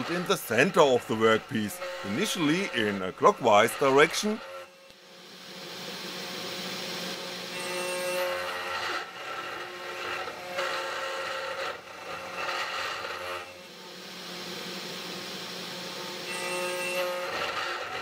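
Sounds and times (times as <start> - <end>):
end mill cutting acrylic: 0.0 - 18.0
router spindle running: 0.0 - 18.0.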